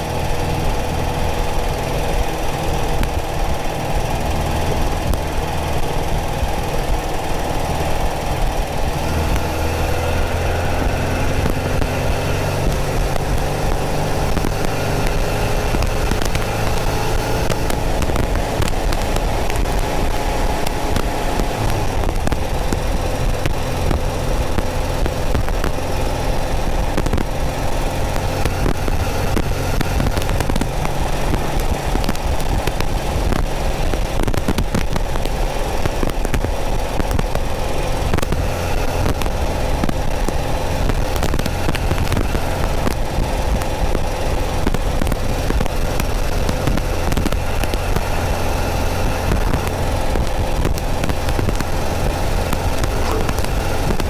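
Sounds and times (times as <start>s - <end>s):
car engine running steadily: 0.0s - 54.0s
static crackle: 0.0s - 54.0s.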